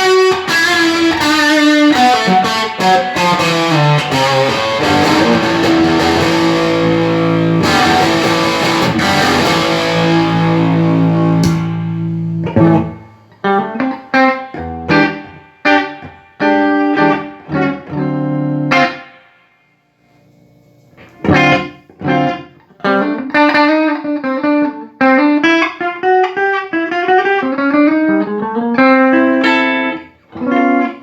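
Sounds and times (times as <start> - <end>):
distorted electric guitar chords: 0.0 - 19.4, 21.0 - 31.0.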